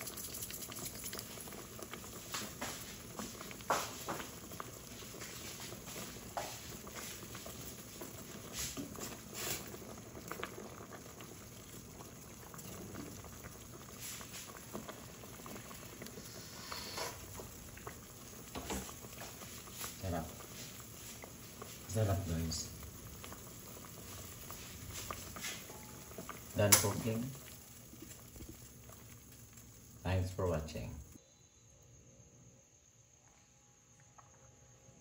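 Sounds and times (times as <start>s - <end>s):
broth bubbling at a boil: 0.0s - 31.2s.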